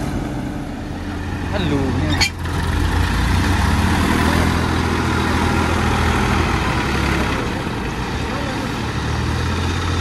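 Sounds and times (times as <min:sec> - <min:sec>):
tractor diesel engine: 0:00.0 - 0:10.0.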